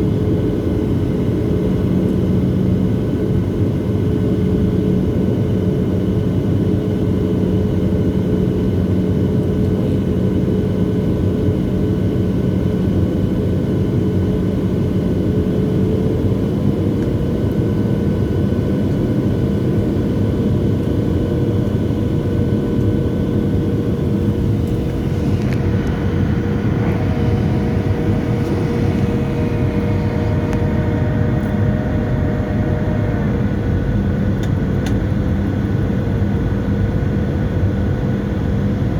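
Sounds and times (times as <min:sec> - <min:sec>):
jet engines droning: 0:00.0 - 0:38.9
airplane cabin rumble: 0:06.2 - 0:38.9.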